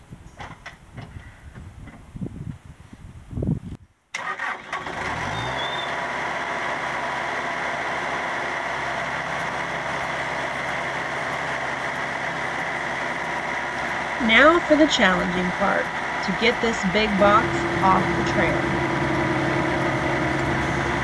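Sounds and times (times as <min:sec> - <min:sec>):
diesel engine starting up: 0:04.1 - 0:21.0.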